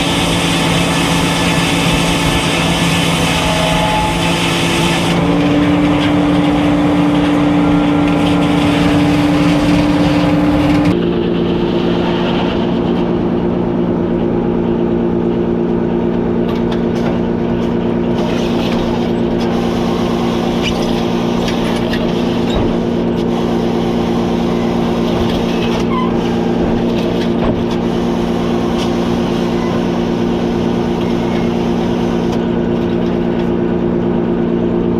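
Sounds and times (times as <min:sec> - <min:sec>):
sawmill machinery humming: 0:00.0 - 0:34.9.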